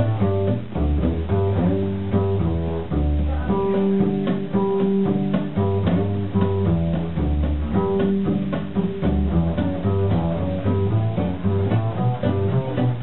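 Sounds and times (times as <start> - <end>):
acoustic guitar: 0.0 - 13.0
plucked double bass walking line: 0.0 - 13.0.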